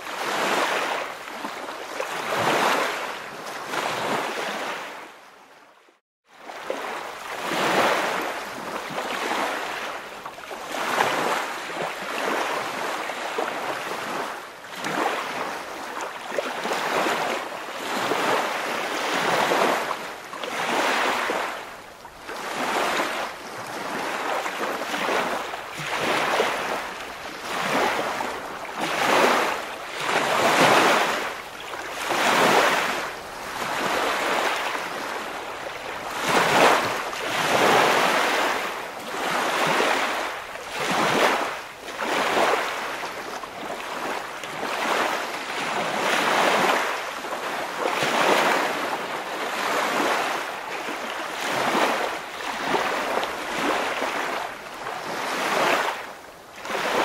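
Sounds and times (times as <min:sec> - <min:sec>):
waves washing onto shore: 0:00.0 - 0:05.2, 0:06.3 - 0:57.0.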